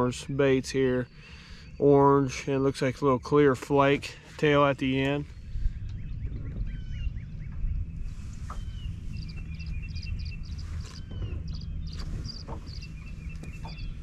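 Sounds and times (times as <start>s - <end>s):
birds chirping and calling: 0.0s - 14.0s
steady low rumble: 0.0s - 14.0s.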